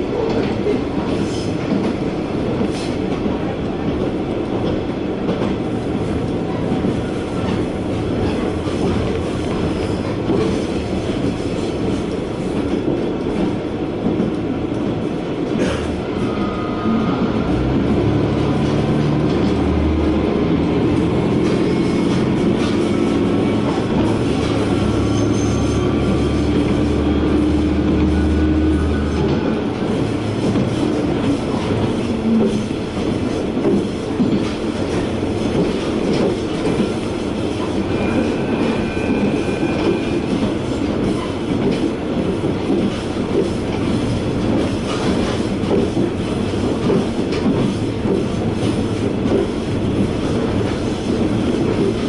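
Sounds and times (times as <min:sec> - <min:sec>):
railcar engine drone: 0:00.0 - 0:52.0.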